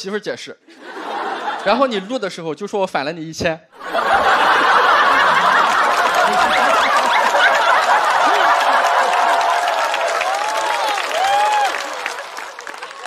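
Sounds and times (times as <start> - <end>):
audience laughing and applauding: 0.8 - 2.1, 3.8 - 13.0.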